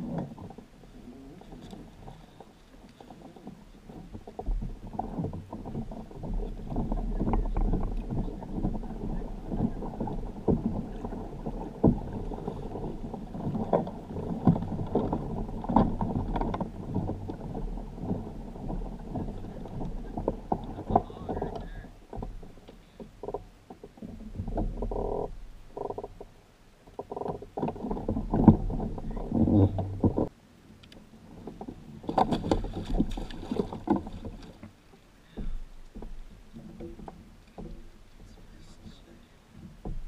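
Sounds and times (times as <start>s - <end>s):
water against kayak hull: 0.0s - 40.0s
thumps from boat and gear: 1.4s - 26.3s, 26.9s - 30.3s, 31.4s - 40.0s.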